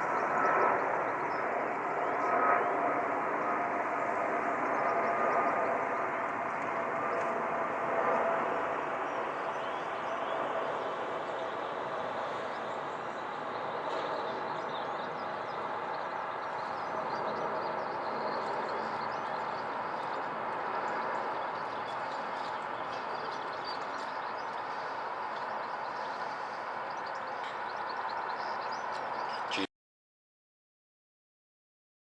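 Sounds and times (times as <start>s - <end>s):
faint jet engine whine: 0.0s - 29.7s
jet airliner engines rumbling: 0.0s - 29.7s.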